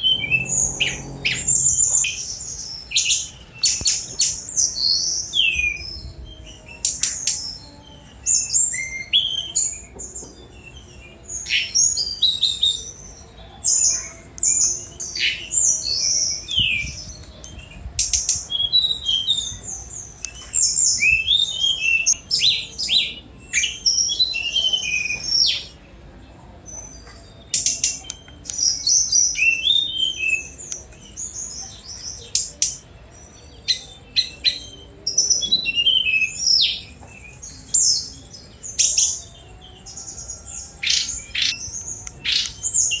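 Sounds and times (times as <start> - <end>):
bird singing chirps and trills: 0.0 - 43.0.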